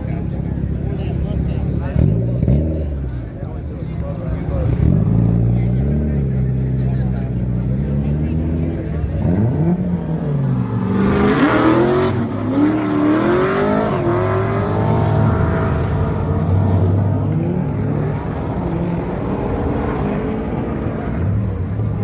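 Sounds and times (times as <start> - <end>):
car engine revving: 4.2 - 22.0.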